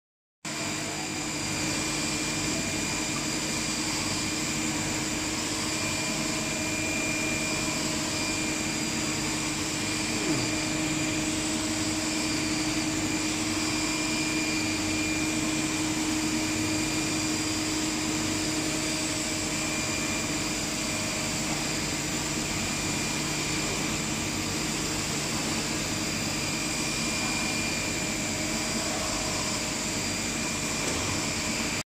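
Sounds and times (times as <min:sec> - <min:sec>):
machine tools humming and whining: 0:00.5 - 0:31.8.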